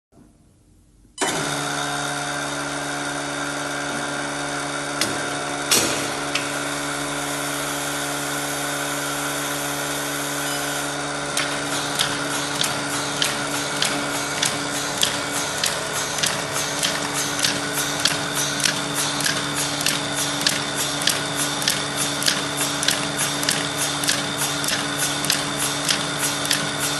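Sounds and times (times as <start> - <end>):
machine motor hum: 1.2 - 26.9.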